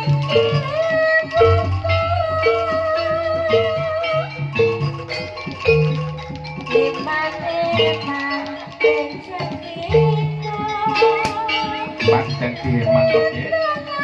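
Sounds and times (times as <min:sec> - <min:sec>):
low drum beats: 0:00.0 - 0:14.0
struck metallophones ringing: 0:00.0 - 0:14.0.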